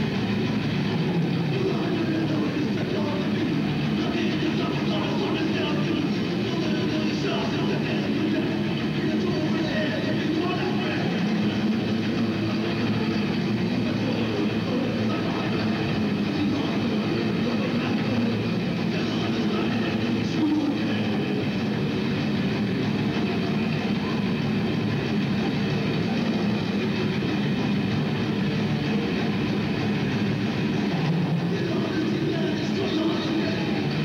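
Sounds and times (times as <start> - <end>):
bass guitar: 0.0 - 34.0
distorted electric guitars: 0.0 - 34.0
drums: 0.0 - 34.0.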